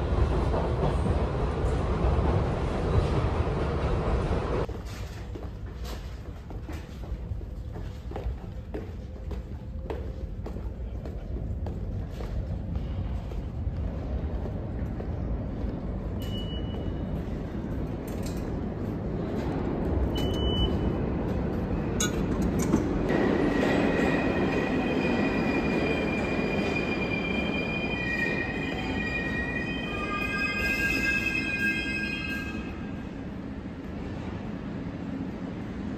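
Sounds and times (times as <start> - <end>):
subway train rumble: 0.0 - 35.9.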